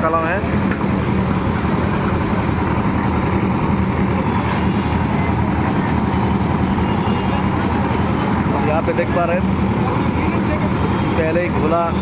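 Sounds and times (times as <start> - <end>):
construction machinery engine droning: 0.0 - 12.0.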